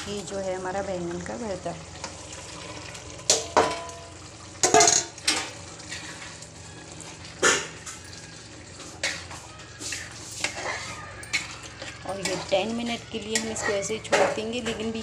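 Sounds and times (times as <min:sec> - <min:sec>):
low sizzle from pan: 0:00.0 - 0:15.0.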